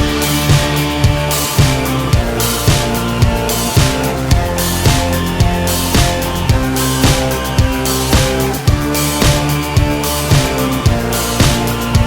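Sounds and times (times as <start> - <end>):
rock music with drums and guitar: 0.0 - 12.0.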